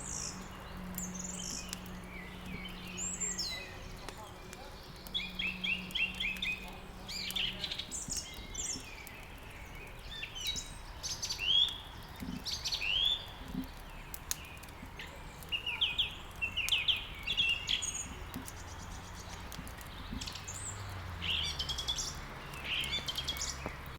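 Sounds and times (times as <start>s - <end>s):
faint sharp crackles: 0.0s - 23.9s
songbirds chirping: 0.0s - 23.9s.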